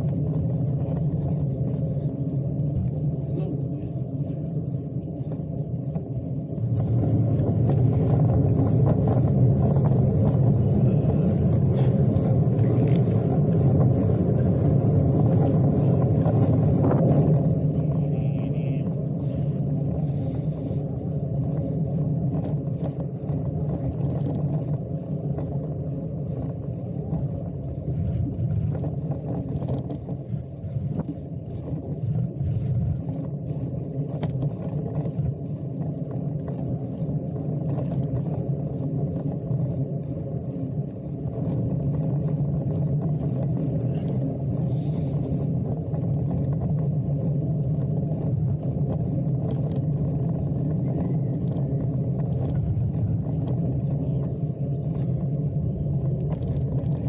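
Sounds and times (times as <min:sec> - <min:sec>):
tyres rolling on asphalt: 0:00.0 - 0:57.0
wind over microphone: 0:00.0 - 0:57.0.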